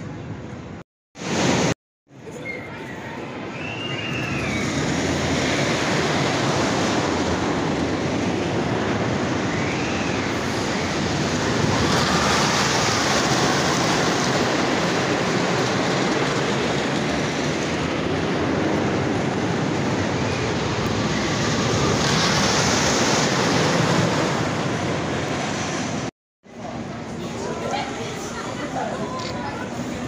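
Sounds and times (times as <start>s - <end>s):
roller coaster rumbling on track: 0.0s - 30.0s.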